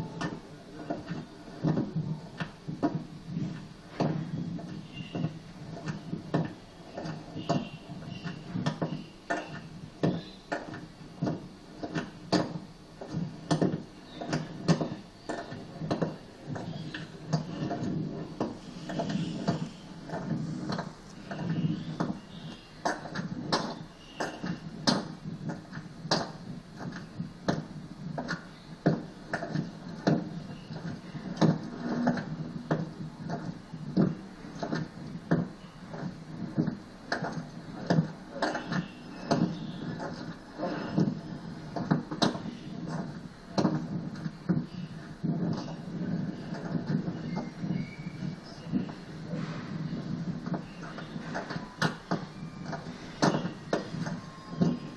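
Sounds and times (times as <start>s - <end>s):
sharp clicks and knocks: 0.0s - 54.9s.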